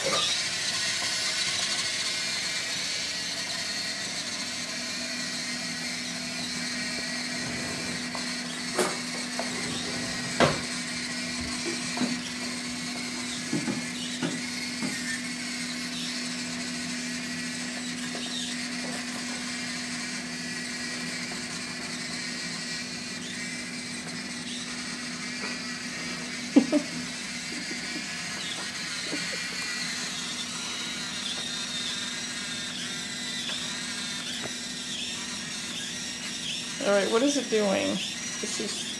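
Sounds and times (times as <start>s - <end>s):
electric gear motors whirring: 0.0s - 38.9s.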